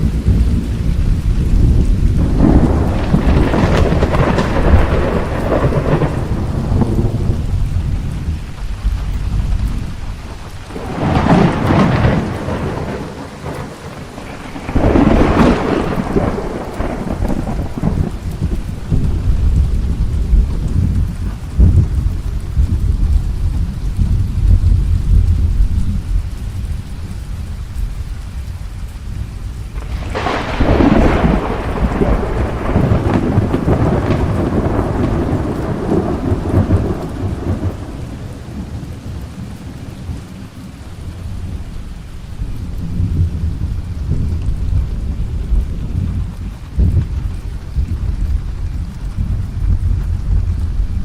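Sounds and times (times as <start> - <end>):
sharp thunderclap: 0.0 - 26.1, 29.8 - 38.8, 42.6 - 51.0
rain falling: 0.0 - 51.0
rolling thunder: 0.0 - 51.0.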